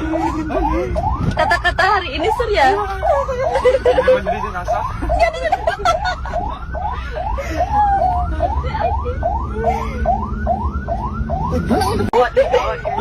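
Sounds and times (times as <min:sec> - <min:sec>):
ambulance siren yelping: 0:00.0 - 0:13.0
low vehicle rumble: 0:00.0 - 0:13.0.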